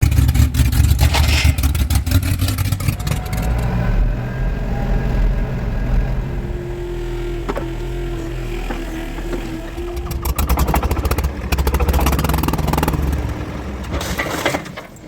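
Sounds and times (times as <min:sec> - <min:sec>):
small engine running: 0:00.0 - 0:14.2.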